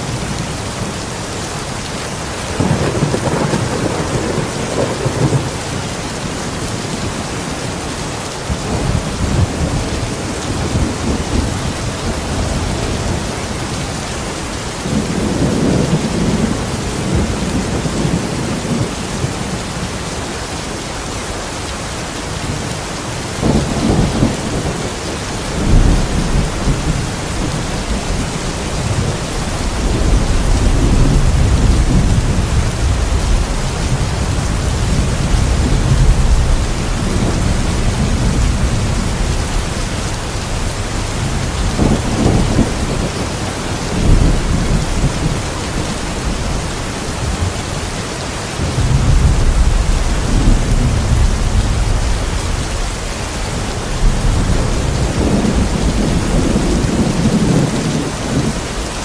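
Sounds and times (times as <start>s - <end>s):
steady rain: 0.0s - 59.0s
thunder rumbling: 2.4s - 7.4s, 8.5s - 19.8s, 23.4s - 47.9s, 48.5s - 59.0s.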